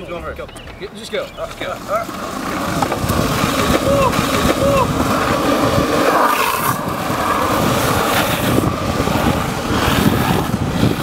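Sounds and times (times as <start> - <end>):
longboard wheels rolling on asphalt: 0.0 - 11.0.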